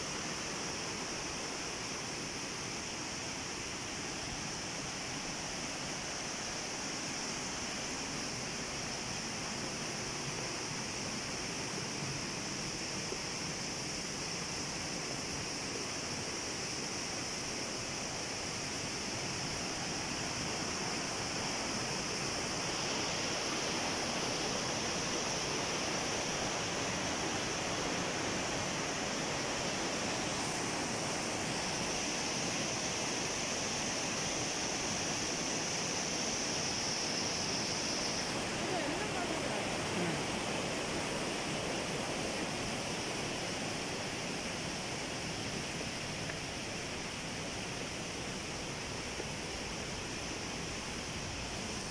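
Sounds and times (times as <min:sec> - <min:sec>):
water rushing over rocks: 0:00.0 - 0:51.9.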